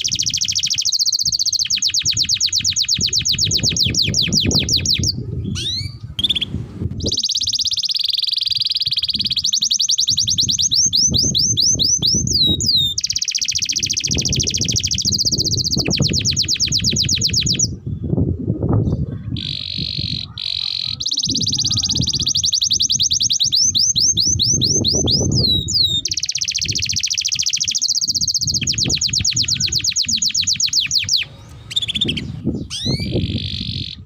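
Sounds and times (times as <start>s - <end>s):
canary singing trills: 0.0s - 17.8s, 18.8s - 34.0s.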